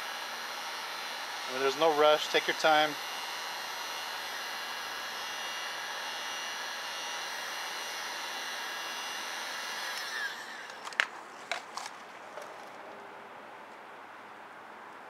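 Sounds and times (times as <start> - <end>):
heat gun fan whine: 0.0 - 12.7.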